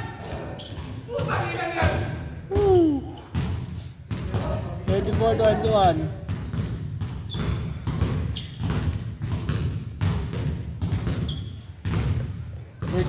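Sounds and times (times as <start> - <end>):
sneaker squeaks: 0.0 - 13.0
basketball bouncing on hardwood: 0.7 - 13.0.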